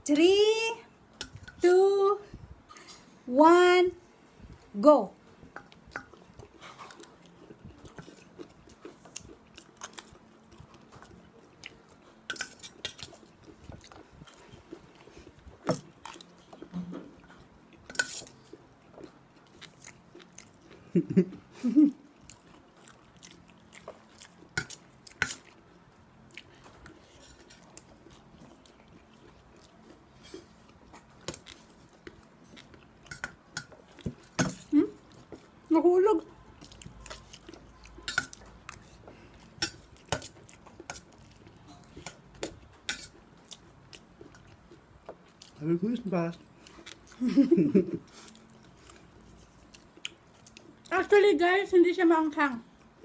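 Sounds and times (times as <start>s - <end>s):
chewing and crunching snack: 5.5s - 51.1s.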